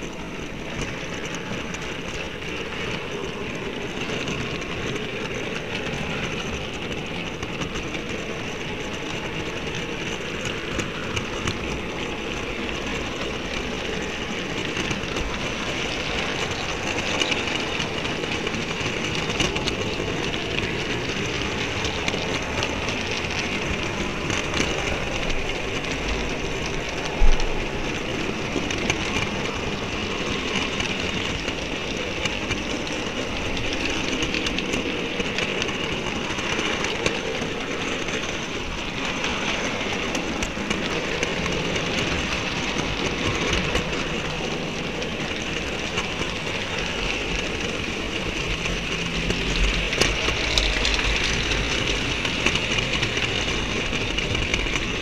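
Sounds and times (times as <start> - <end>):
model train wagons rolling: 0.0 - 55.0
wheels ticking over rail joints: 0.0 - 55.0.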